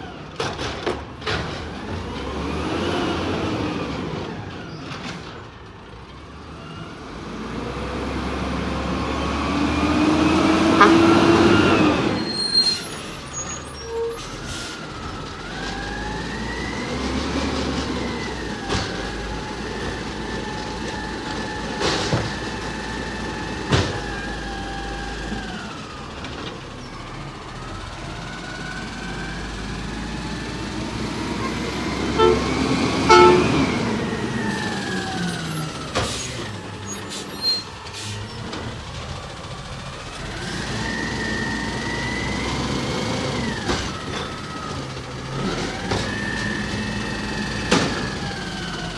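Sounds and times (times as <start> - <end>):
garbage truck engine whine: 0.0 - 48.9.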